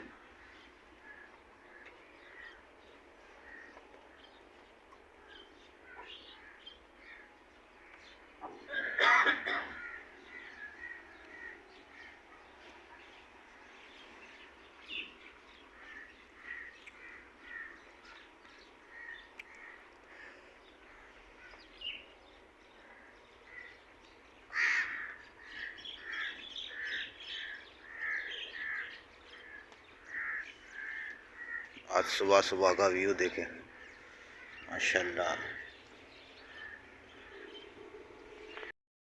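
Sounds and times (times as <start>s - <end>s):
birds calling harshly: 0.0s - 38.7s.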